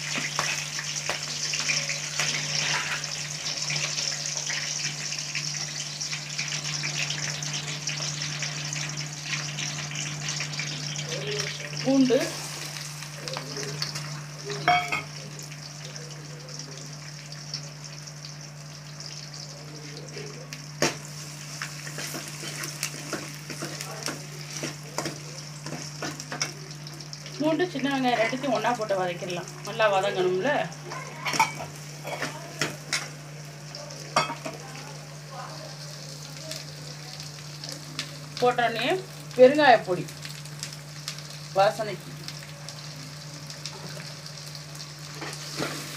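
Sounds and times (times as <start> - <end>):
garlic sizzling in oil: 0.0 - 45.9.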